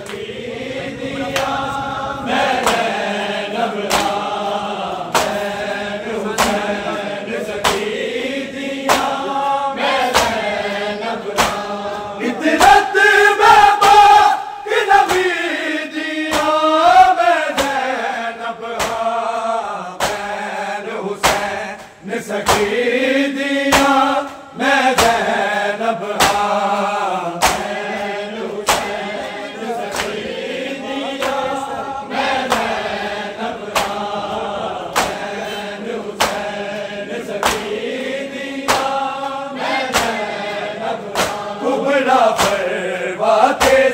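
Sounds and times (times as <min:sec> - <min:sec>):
crowd beating chests: 0:00.0 - 0:18.0, 0:18.6 - 0:43.9
men chanting a lament: 0:00.0 - 0:43.9.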